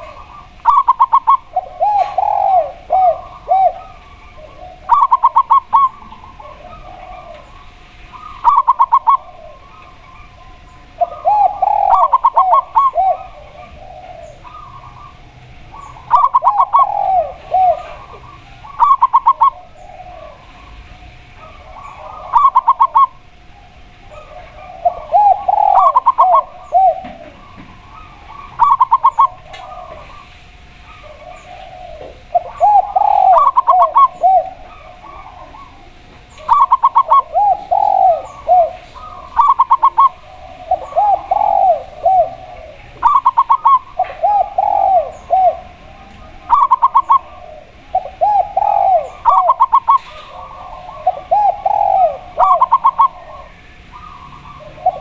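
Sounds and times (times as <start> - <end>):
higher quicker dove cooing: 0.0 - 9.7, 10.8 - 20.6, 21.4 - 23.3, 24.1 - 55.0
faint high bird chirps: 0.0 - 20.8, 21.4 - 55.0
low dove cooing: 0.0 - 55.0.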